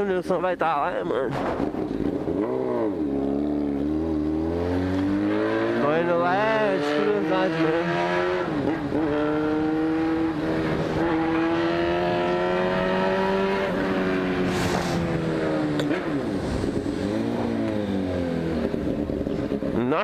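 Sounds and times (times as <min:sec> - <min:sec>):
motorcycle revving through gears: 0:01.6 - 0:20.0.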